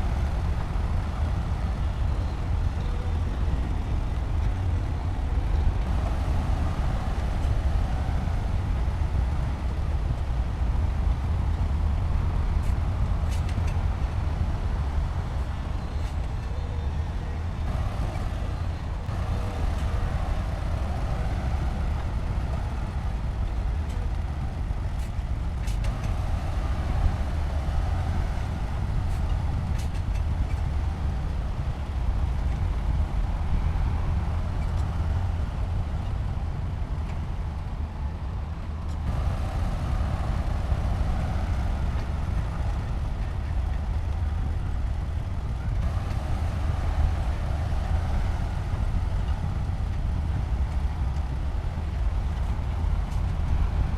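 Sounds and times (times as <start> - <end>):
diesel construction machinery rumbling: 0.0 - 53.9.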